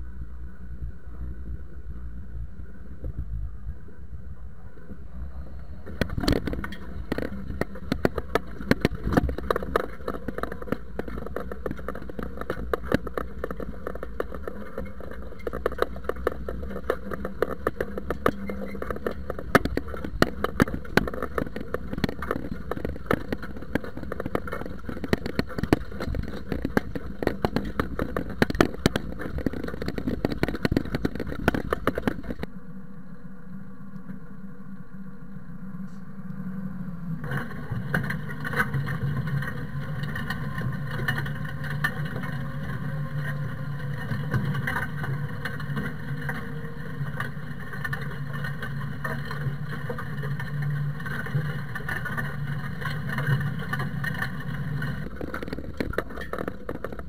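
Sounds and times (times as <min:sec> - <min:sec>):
tractor engine running: 0:05.7 - 0:32.5, 0:37.2 - 0:57.0
cultivator frame rattling: 0:05.8 - 0:32.5, 0:37.2 - 0:57.0
tines scraping soil: 0:05.9 - 0:32.5, 0:37.2 - 0:57.0.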